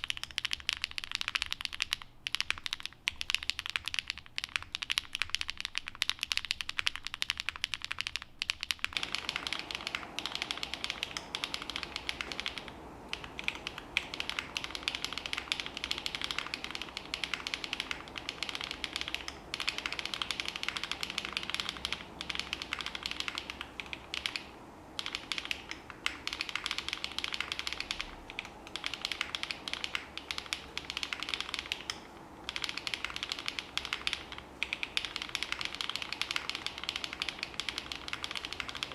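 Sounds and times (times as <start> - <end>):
low room sound: 0.0 - 38.9
mechanical keyboard typing: 0.0 - 38.9.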